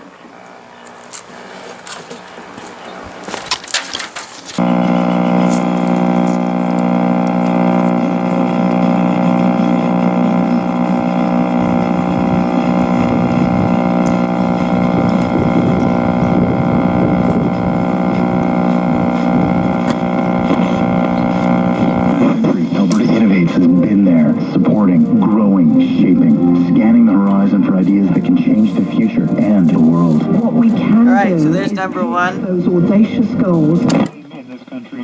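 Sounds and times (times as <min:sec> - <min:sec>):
radio speaker buzzing: 0:01.0 - 0:35.0.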